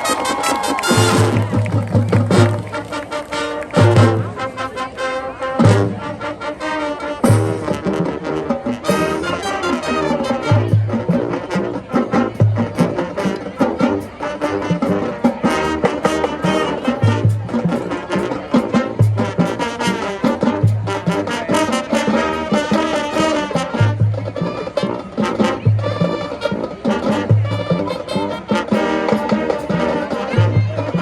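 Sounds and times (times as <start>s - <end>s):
marching band playing: 0.0s - 31.0s.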